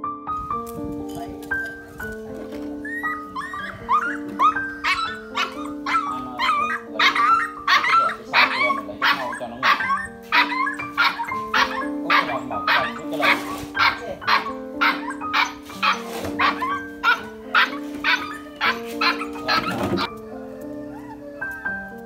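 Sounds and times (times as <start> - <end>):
background music with held notes: 0.0 - 22.0
puppy yelping: 2.7 - 22.0.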